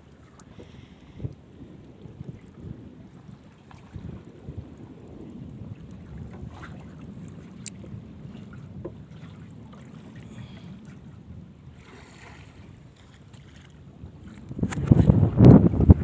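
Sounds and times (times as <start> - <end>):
boat rumble: 0.0 - 16.0
water passing hull: 0.0 - 16.0.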